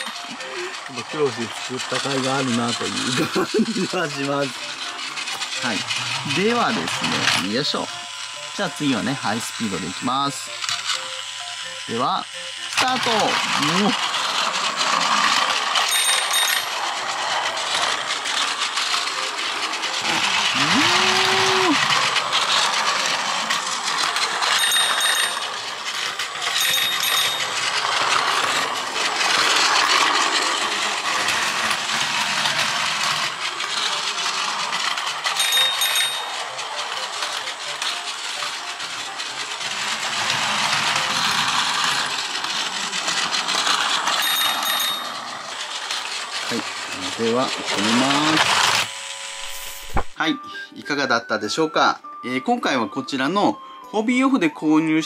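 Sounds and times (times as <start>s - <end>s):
toy train motor whirring and clattering: 0.0s - 50.2s.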